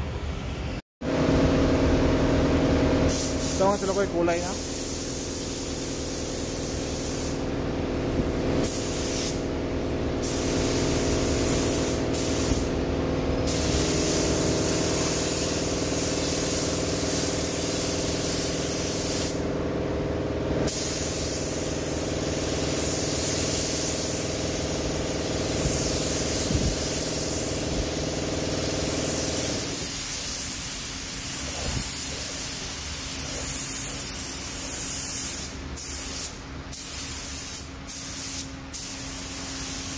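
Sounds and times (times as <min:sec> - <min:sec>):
steady mechanical hum: 0:00.0 - 0:39.9
spray gun hissing: 0:03.1 - 0:12.8, 0:13.5 - 0:19.4, 0:20.6 - 0:39.9.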